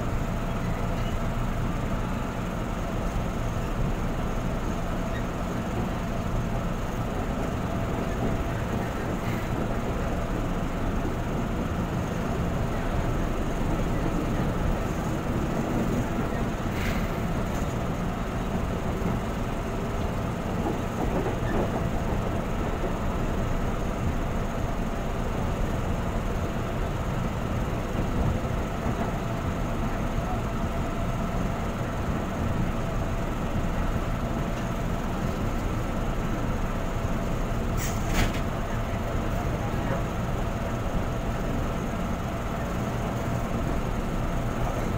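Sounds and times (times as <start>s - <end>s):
electric train rolling on track: 0.0s - 44.9s.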